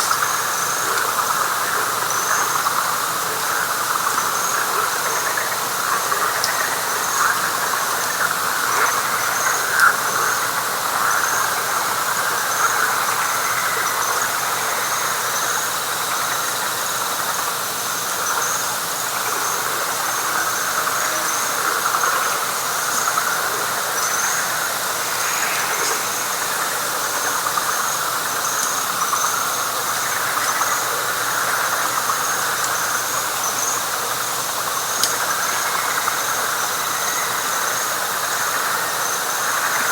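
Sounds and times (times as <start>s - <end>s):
chorus of calling frogs: 0.0s - 39.9s
high pulsing insect call: 0.0s - 39.9s.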